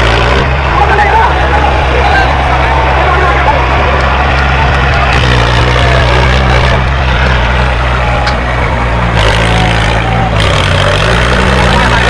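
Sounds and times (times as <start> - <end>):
heavy vehicle engine running: 0.0 - 12.0
noisy rattle: 0.0 - 12.0.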